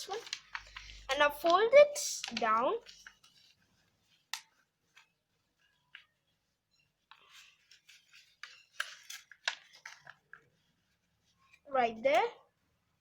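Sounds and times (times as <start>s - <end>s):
paper crinkling and rustling: 0.0s - 11.6s.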